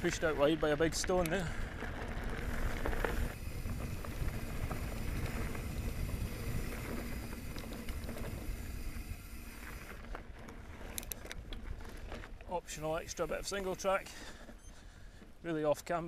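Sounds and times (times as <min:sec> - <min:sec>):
bike clicks and rattles: 0:00.0 - 0:15.4
bike tyres on dirt and stones: 0:00.0 - 0:16.0.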